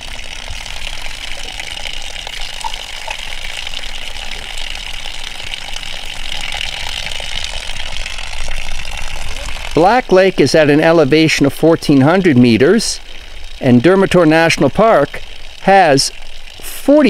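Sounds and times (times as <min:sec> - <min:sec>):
fountain water running: 0:00.0 - 0:17.0
metal water bottle being filled: 0:00.0 - 0:17.0.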